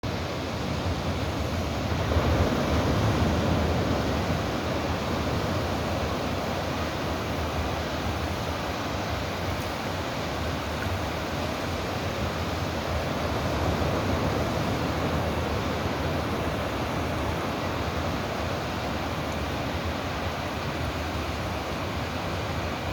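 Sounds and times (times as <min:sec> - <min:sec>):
sea waves surf: 0:00.0 - 0:22.9.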